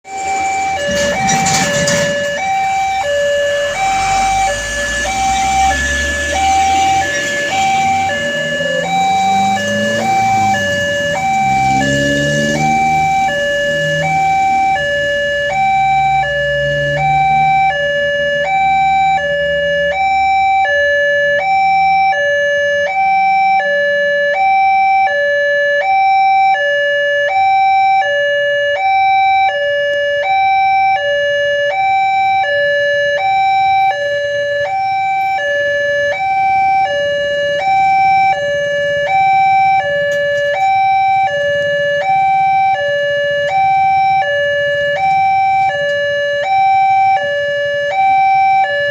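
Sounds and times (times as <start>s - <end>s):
level crossing two-tone alarm: 0.0s - 48.9s.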